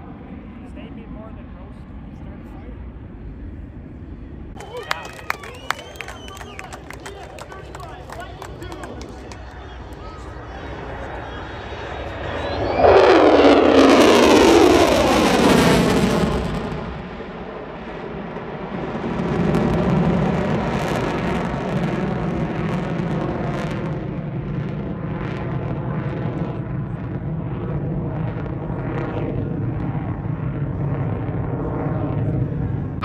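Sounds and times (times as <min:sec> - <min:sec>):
fighter jet roar passing: 0:00.0 - 0:33.0.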